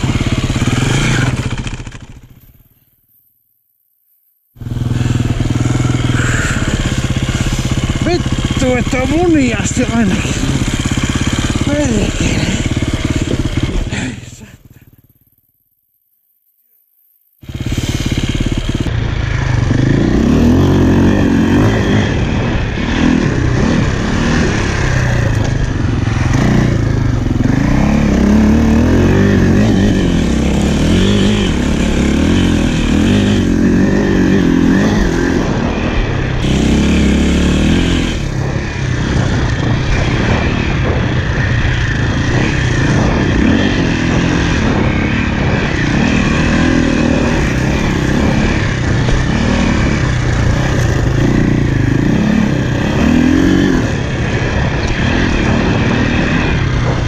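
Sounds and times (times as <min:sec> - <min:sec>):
dirt bike engine revving: 0:00.0 - 0:02.8, 0:04.5 - 0:15.4, 0:17.4 - 0:57.0.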